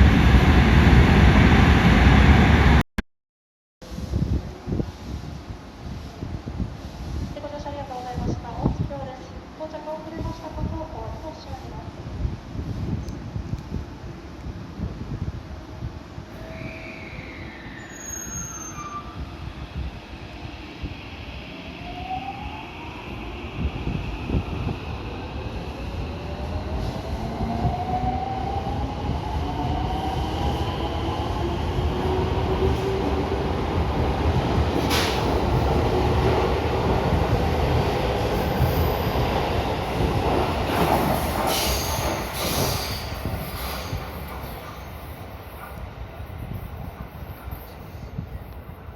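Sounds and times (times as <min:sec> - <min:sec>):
electric train rumbling on rails: 0:00.0 - 0:02.8, 0:03.8 - 0:48.9.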